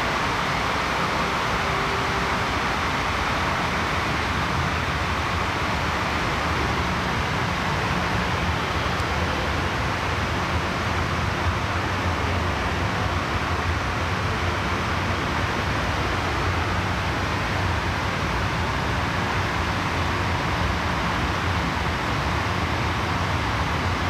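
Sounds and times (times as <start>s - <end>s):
metro train rolling through station: 0.0s - 24.0s.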